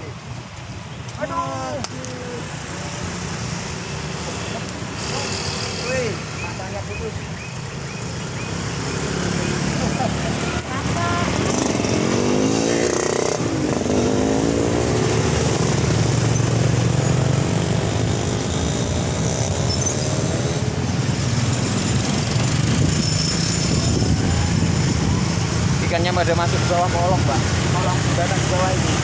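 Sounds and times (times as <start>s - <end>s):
motorcycles passing by: 0.3s - 29.0s.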